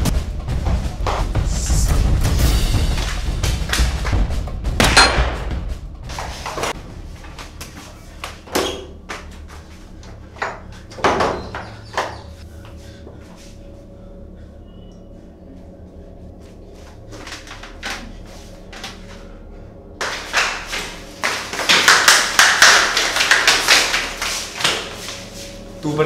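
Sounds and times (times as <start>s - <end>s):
film music: 0.0s - 10.9s, 11.5s - 26.0s.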